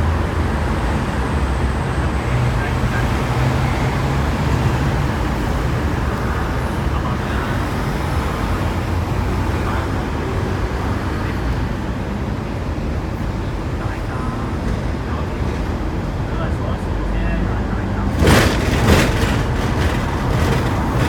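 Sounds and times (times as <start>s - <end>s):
road traffic noise: 0.0s - 21.0s
tram rumbling: 0.0s - 21.0s.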